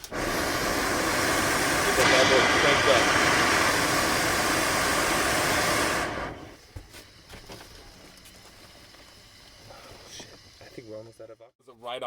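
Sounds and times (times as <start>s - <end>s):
torch burning with loud hiss: 0.0s - 11.2s.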